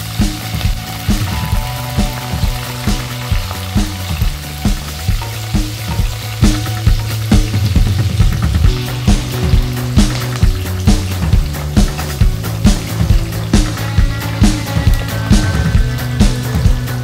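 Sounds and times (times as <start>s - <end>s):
background music with steady beat: 0.0s - 17.0s
seeds sizzling in hot oil: 0.0s - 17.0s.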